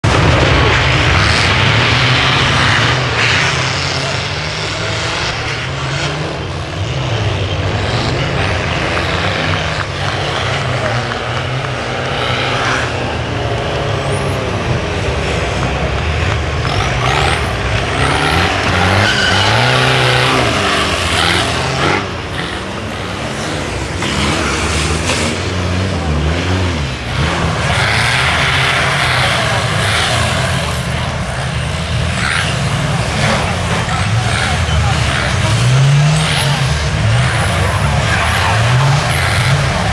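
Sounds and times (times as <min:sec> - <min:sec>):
off-road engines revving: 0:00.0 - 0:39.9
vehicles rattling on rough ground: 0:00.0 - 0:39.9.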